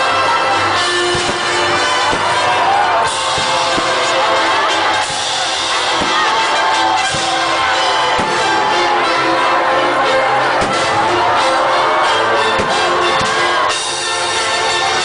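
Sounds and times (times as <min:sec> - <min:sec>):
crowd noise: 0:00.0 - 0:15.0
loud music with drums: 0:00.0 - 0:15.0.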